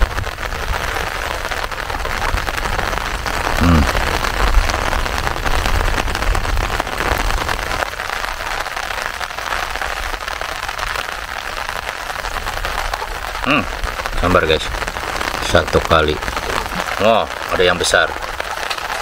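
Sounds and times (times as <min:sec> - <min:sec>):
rain falling on water: 0:00.0 - 0:19.0.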